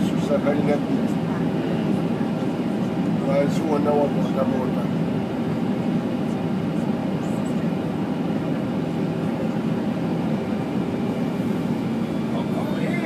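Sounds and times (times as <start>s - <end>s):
airliner cabin engine rush: 0.0s - 13.0s.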